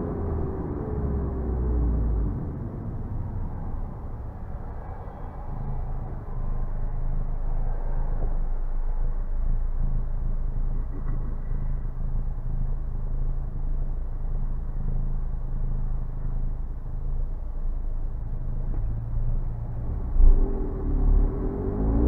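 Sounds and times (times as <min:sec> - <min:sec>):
car engine droning steadily: 0:00.0 - 0:22.0.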